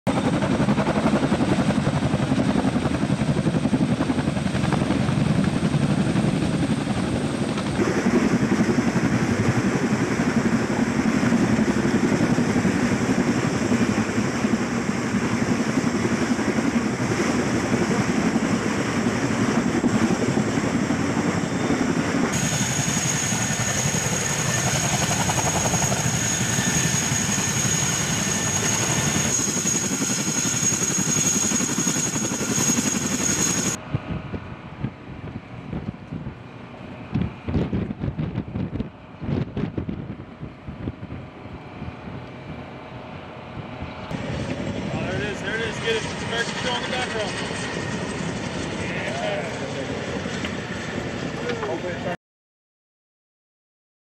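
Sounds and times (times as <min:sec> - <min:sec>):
helicopter rotor and engine noise: 0:00.1 - 0:52.2
steady high whine: 0:05.4 - 0:52.1.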